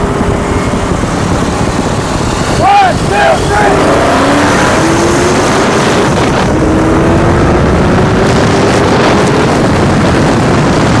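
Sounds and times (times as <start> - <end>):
racing car engines at full throttle: 0.0 - 11.0.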